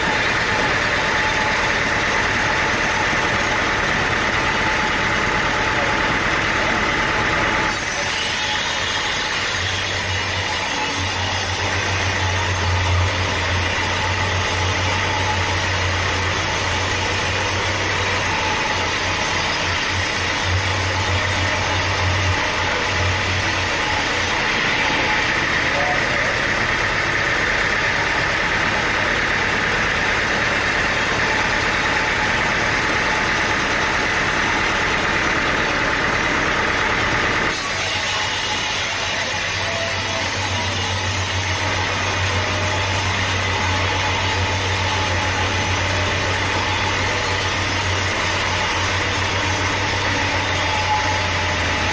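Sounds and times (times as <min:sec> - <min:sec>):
sawmill engine running: 0:00.0 - 0:51.9.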